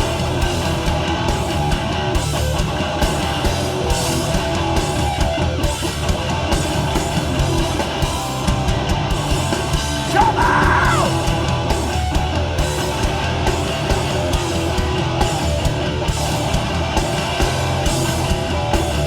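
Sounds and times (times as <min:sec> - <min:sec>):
punk band playing live: 0:00.0 - 0:19.0.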